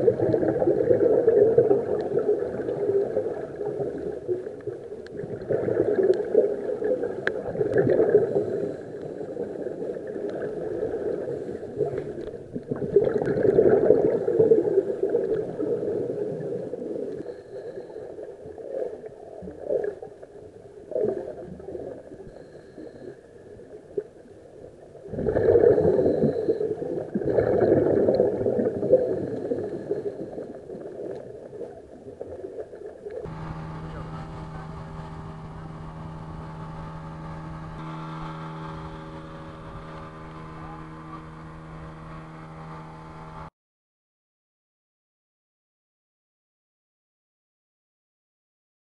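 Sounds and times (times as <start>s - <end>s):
underwater regulator bubbles: 0.0s - 24.2s, 24.8s - 43.5s.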